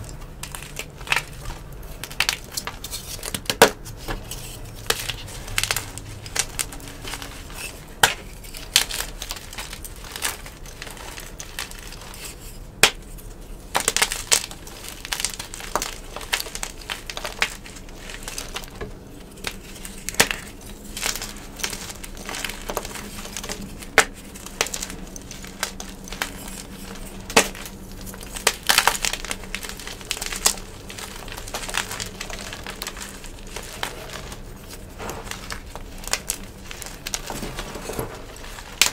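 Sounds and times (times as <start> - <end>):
chalk pieces snapping: 0.0 - 38.9.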